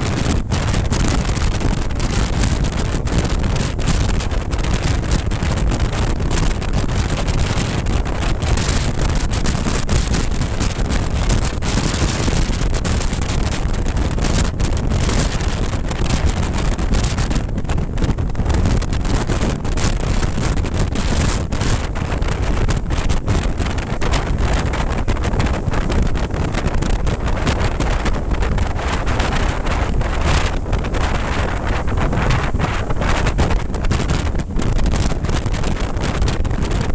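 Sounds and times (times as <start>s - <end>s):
road noise: 0.0s - 36.8s
wind buffeting microphone: 0.0s - 36.9s.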